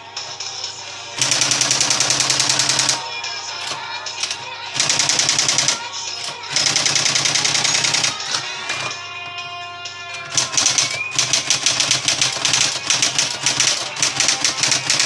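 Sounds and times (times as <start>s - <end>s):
electric typewriter keystrokes: 1.2s - 15.0s.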